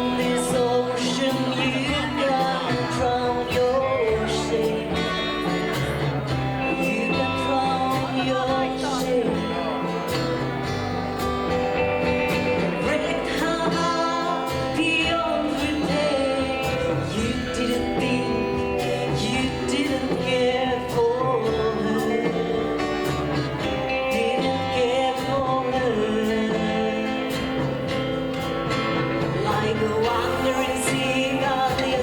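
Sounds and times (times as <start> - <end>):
rockabilly band playing slow song: 0.0 - 32.0.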